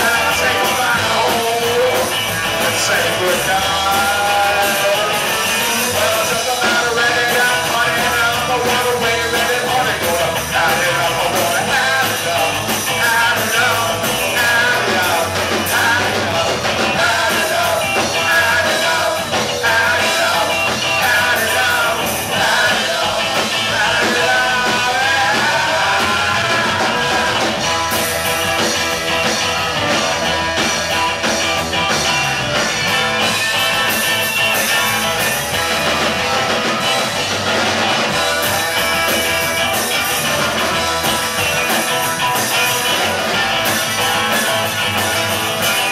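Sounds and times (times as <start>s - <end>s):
drums: 0.0s - 45.9s
electric guitar: 0.0s - 45.9s.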